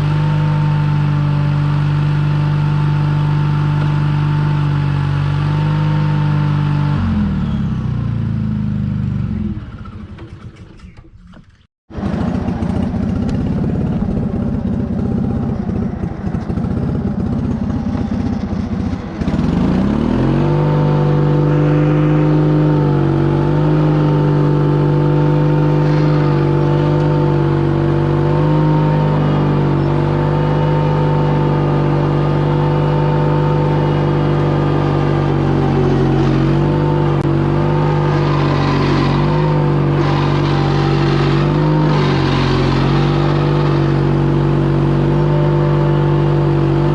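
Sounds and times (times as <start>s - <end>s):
skid steer engine revving: 0.0s - 46.9s.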